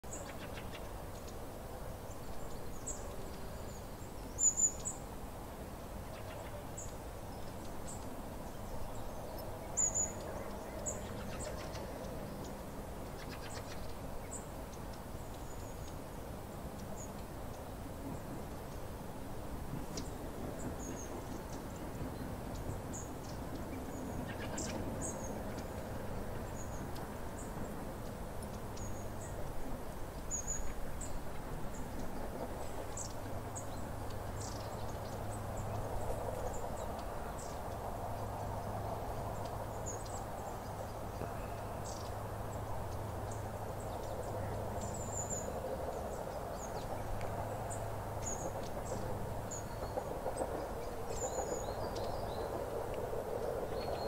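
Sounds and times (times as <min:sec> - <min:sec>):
low rumble of background noise: 0:00.0 - 0:54.0.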